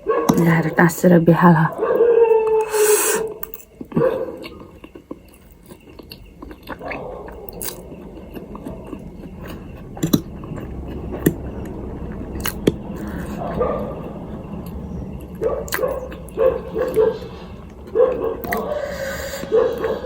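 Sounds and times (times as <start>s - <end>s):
low steady hum: 0.0s - 20.0s
crunching while chewing: 1.8s - 20.0s.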